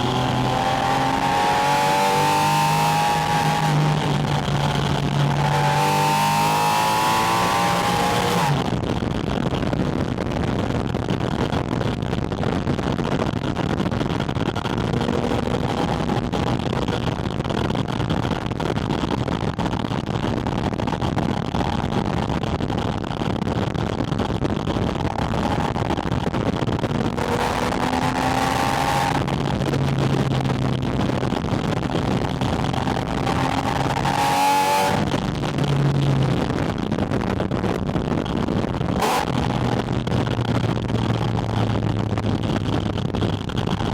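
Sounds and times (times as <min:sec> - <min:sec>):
car engine running: 0:00.0 - 0:43.9
wind rush: 0:00.0 - 0:43.9.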